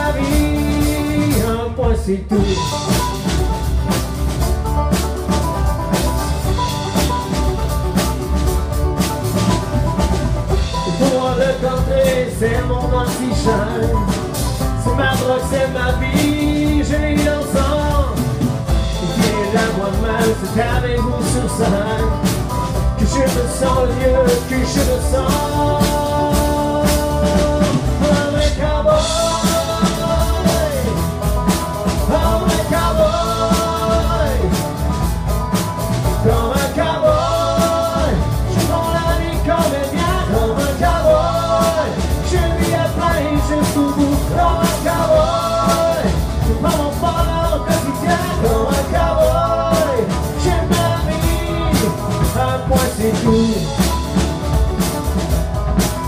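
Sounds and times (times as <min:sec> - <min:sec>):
acoustic guitar: 0:00.0 - 0:56.0
drums: 0:00.0 - 0:56.0
upright bass: 0:00.0 - 0:56.0.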